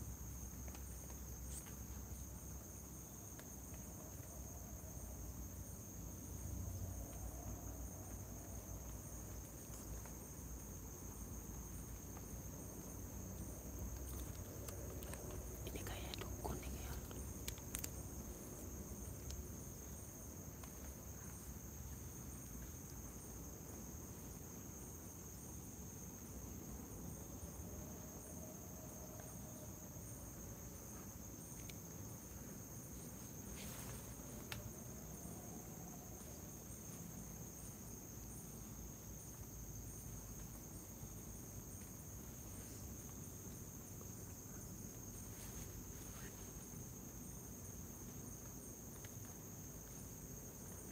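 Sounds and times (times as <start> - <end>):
crickets trilling: 0.0 - 50.9
low rumbling background noise: 2.0 - 50.9.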